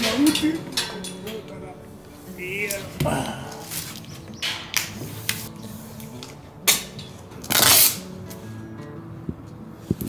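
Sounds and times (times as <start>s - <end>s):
hands working on window frame: 0.0s - 8.4s
background music steady tones: 0.0s - 10.0s.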